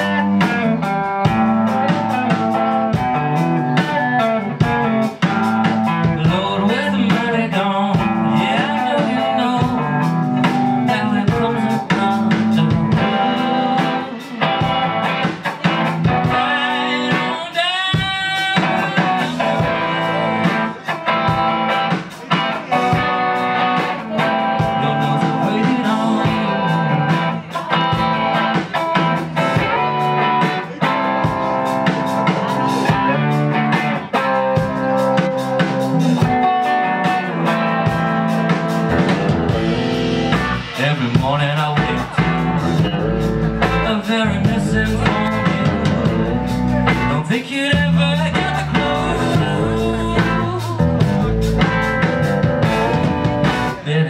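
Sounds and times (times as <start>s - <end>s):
bass guitar: 0.0s - 54.0s
drum kit beat: 0.0s - 54.0s
electric guitars: 0.0s - 54.0s.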